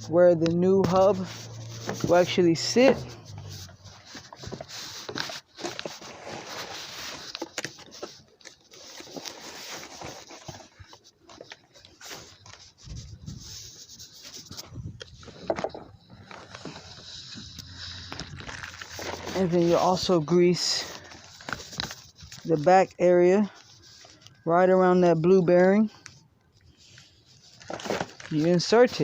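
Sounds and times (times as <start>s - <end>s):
grease scraping and rubbing: 0.7s - 25.2s, 26.8s - 29.0s.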